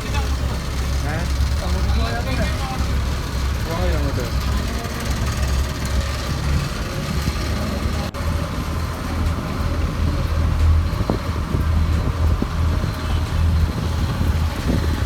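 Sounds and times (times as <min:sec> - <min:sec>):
ferry engine rumbling: 0:00.0 - 0:15.0.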